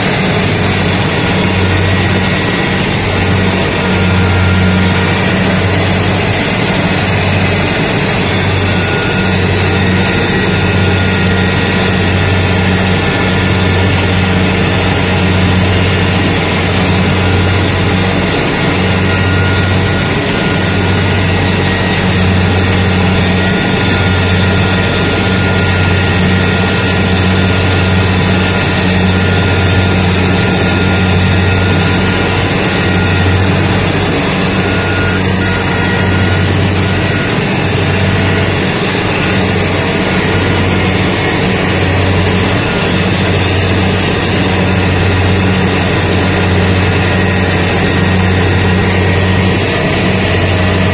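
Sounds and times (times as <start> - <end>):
combine harvester engine hum: 0.0 - 50.9
high machine tones: 0.0 - 50.9.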